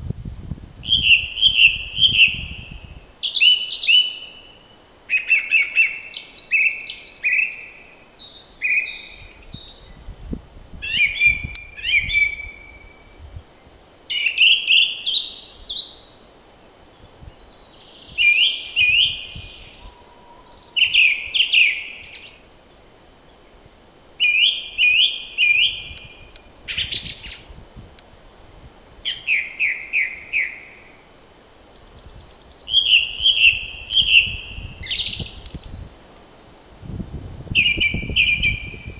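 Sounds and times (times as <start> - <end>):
faint wind rumble: 0.0 - 3.3, 7.1 - 14.5, 15.3 - 38.9
songbirds chirping: 0.0 - 38.9.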